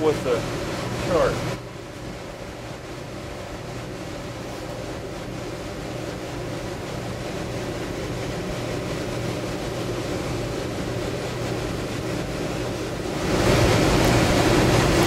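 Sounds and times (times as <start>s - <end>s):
oil burner roaring: 0.0s - 15.0s.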